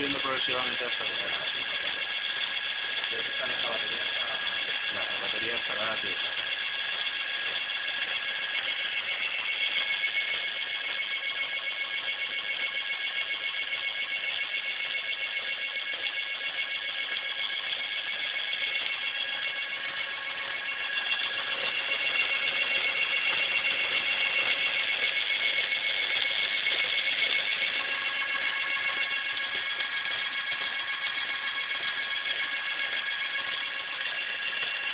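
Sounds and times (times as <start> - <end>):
electric bicycle motor whine: 0.0 - 34.9.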